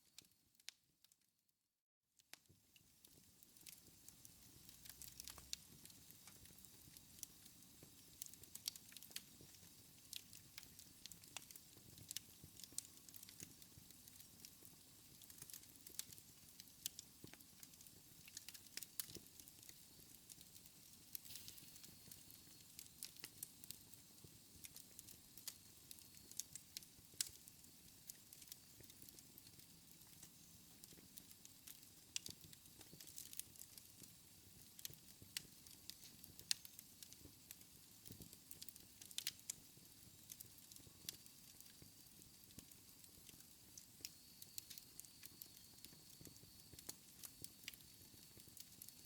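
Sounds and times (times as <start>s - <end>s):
wood fire crackling: 2.3s - 49.0s
faint low hiss: 2.7s - 49.0s.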